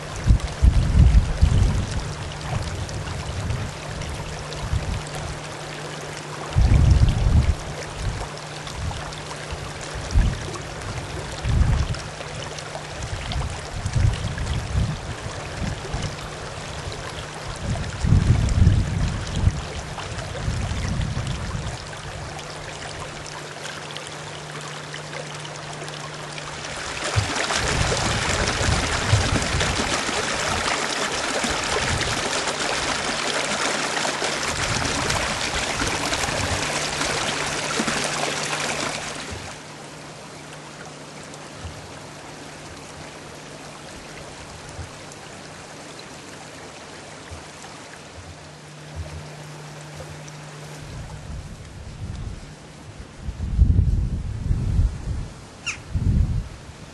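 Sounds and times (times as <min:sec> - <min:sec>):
stream over stones: 0:00.0 - 0:52.7.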